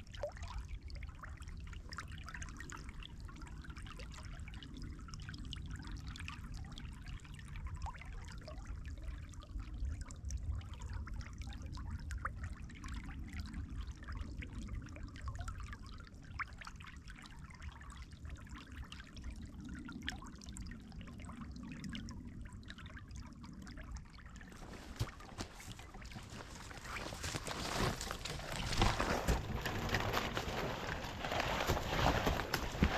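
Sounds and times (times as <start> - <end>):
water trickling and splashing: 0.0 - 32.9.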